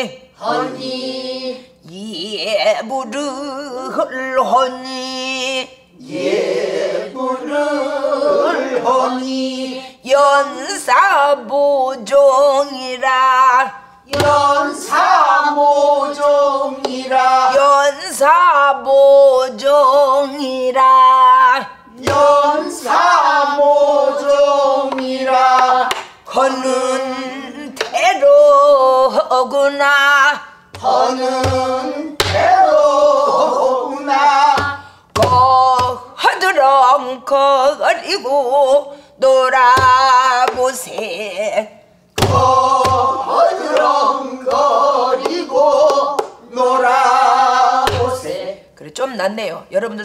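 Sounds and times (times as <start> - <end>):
woman singing with vibrato: 0.0 - 5.9, 7.5 - 48.8.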